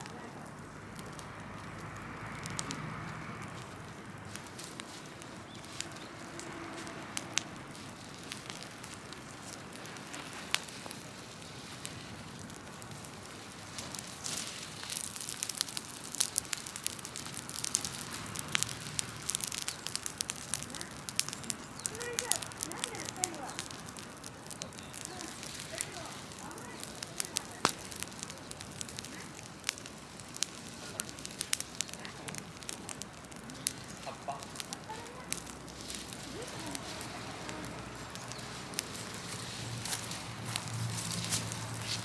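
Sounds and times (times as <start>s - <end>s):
fire crackling: 0.0s - 42.0s
sharp pops of fire: 0.0s - 42.0s.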